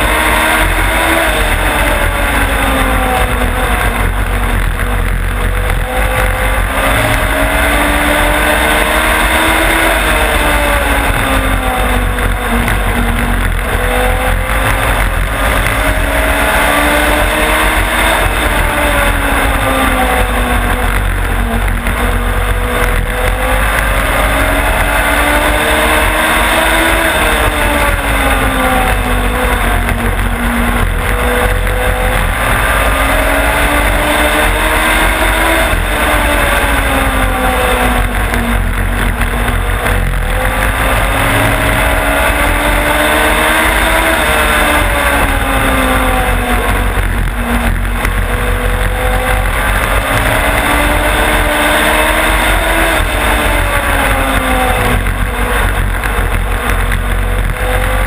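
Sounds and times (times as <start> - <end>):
race car engine: 0.0 - 58.0
wind and road noise: 0.0 - 58.0.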